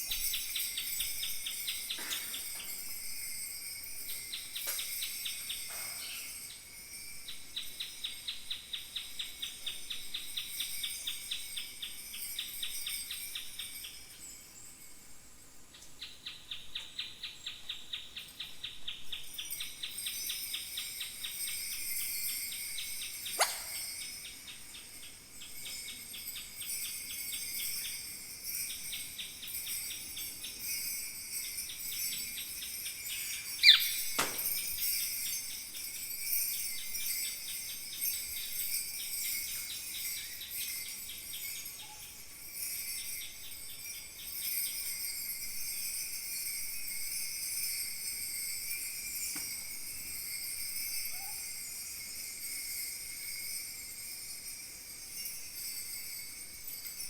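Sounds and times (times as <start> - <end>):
bronze bells jingling: 0.0 - 15.5, 19.2 - 57.0.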